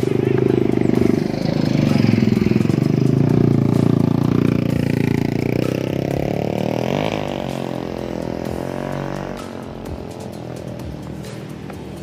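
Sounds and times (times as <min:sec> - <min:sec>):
motorcycle engines passing by: 0:00.0 - 0:12.0.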